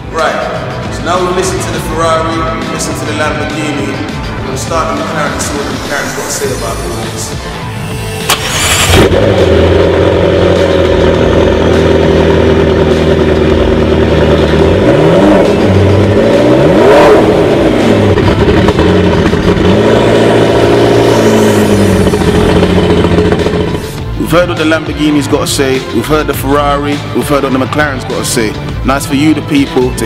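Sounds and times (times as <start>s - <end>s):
car engine revving: 0.0s - 25.2s
car engine idling: 2.9s - 27.5s.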